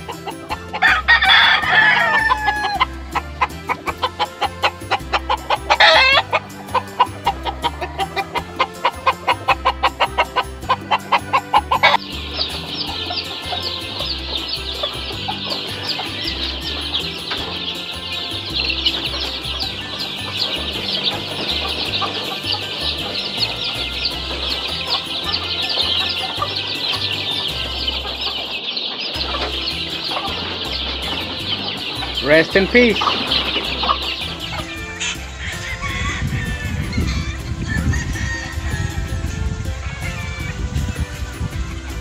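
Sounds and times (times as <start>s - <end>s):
dense high chirping: 0.0s - 37.4s
background music with beat: 0.0s - 42.0s
chickens clucking: 0.0s - 42.0s
rooster crowing: 0.1s - 3.0s, 4.2s - 28.5s, 33.0s - 40.2s.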